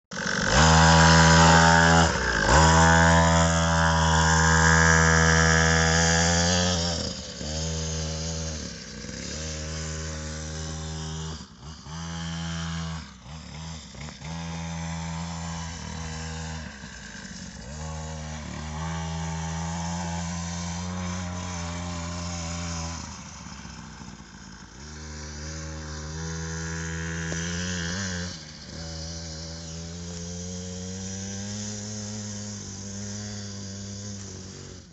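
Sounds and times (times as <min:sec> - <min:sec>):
small dirt bike engine revving: 0:00.0 - 0:34.9.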